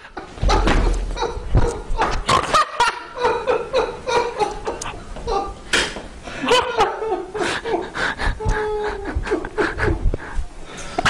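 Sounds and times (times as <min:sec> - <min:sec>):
man laughing heartily: 0:00.0 - 0:05.6, 0:06.3 - 0:10.4.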